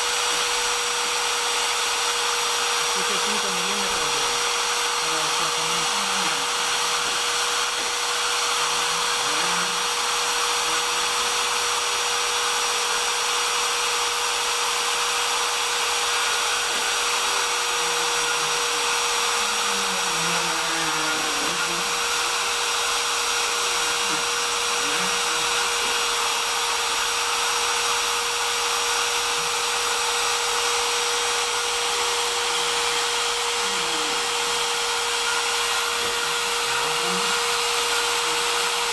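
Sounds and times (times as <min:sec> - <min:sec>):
axis motors gliding in pitch: 0:00.0 - 0:38.9
spindle motor whine: 0:00.0 - 0:38.9.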